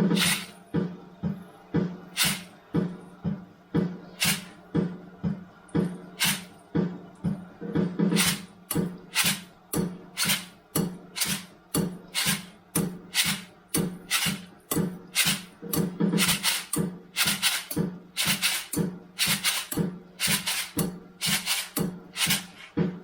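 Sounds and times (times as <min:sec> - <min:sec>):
percussive beat thud and crack: 0:00.0 - 0:23.0.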